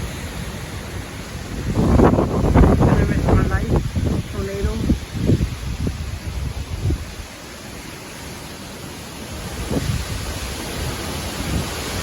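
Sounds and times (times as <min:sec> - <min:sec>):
wind buffeting microphone: 0:00.0 - 0:07.5, 0:09.3 - 0:12.0
strong wind blowing: 0:00.0 - 0:12.0.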